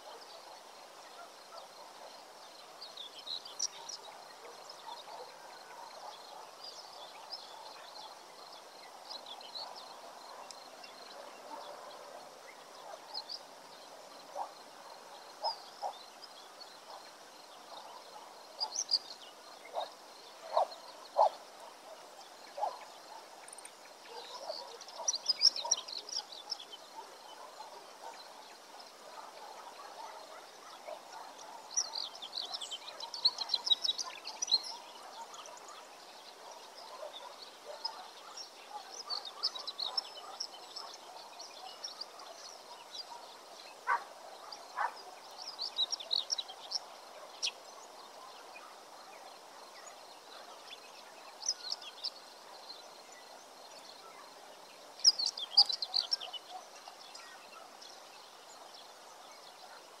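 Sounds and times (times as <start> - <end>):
outdoor background noise: 0.0 - 60.0
songbirds chirping: 0.0 - 60.0.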